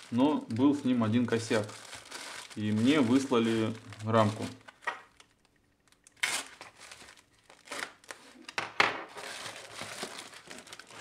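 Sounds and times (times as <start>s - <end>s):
foam packing sheet rustling: 0.0s - 4.7s, 6.2s - 8.5s, 9.1s - 11.0s.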